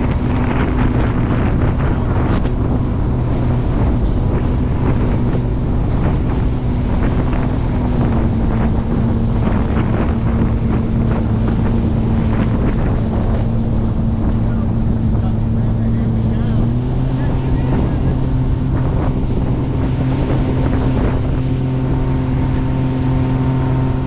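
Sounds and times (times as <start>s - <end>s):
boat engine running: 0.0s - 24.0s
water rushing past hull: 0.0s - 24.0s
wind buffeting microphone: 0.0s - 24.0s.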